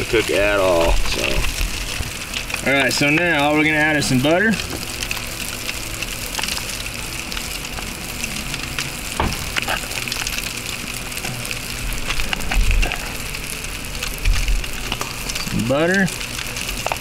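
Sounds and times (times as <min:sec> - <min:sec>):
food sizzling in foil on coals: 0:00.0 - 0:17.0.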